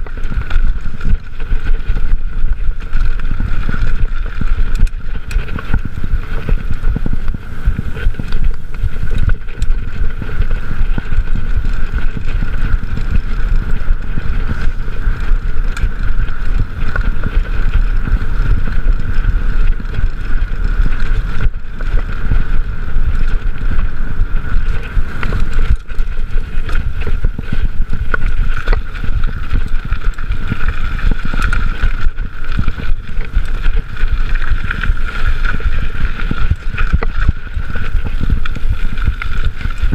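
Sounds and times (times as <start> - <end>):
bike tyres rumbling on dirt: 0.0 - 39.9
wind buffeting microphone: 0.0 - 39.9.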